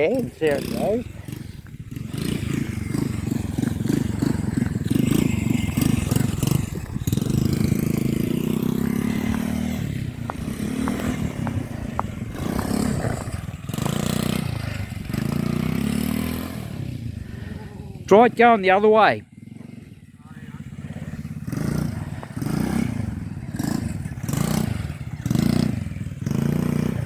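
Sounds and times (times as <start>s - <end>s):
small engine revving: 0.0s - 27.0s.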